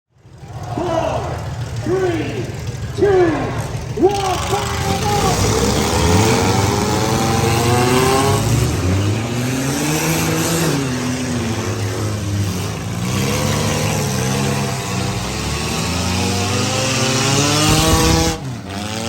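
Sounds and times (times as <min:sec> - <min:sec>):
low rumble of running engines: 0:00.2 - 0:09.7, 0:10.9 - 0:19.0
car engines revving: 0:00.2 - 0:19.0.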